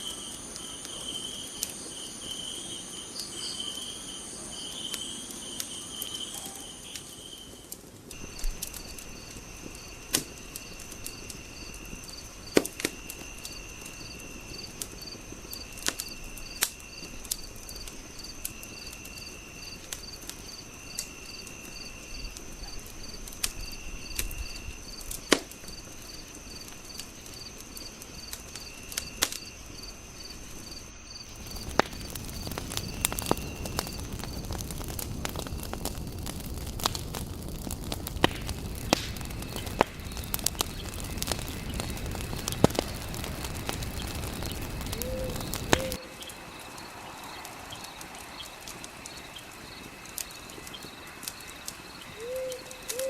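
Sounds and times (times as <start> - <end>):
crickets chirping: 0.0 - 53.0
insects trilling: 0.0 - 53.0
wood fire crackling: 0.0 - 53.0.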